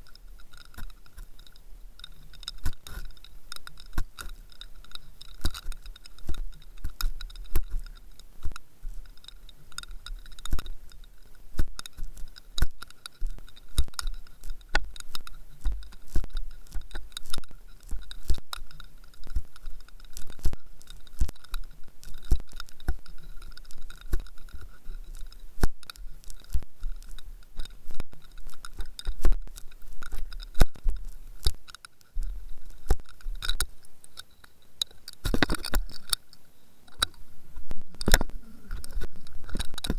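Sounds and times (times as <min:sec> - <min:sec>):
faint steady whine: 0:00.0 - 0:39.9
fishing rig knocking and clicking: 0:00.0 - 0:39.9.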